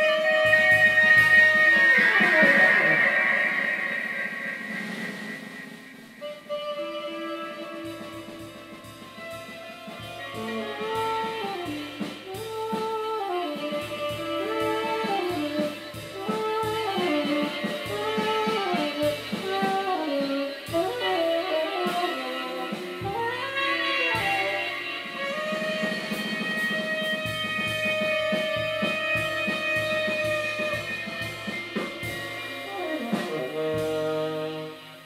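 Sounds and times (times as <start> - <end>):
loose drumming on drum kit: 0.0 - 35.0
tenor saxophone playing: 0.0 - 35.0.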